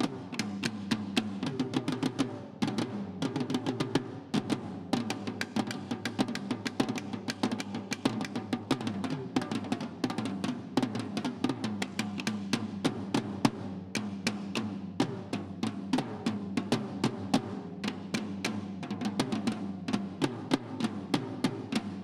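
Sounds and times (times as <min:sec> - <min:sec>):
snare drums and toms: 0:00.0 - 0:22.0.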